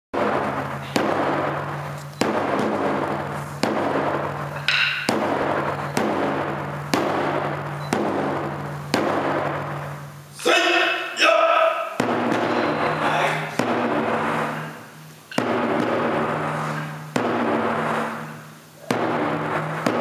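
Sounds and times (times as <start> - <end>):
taiko drum beats: 0.2 - 9.9, 12.0 - 20.0.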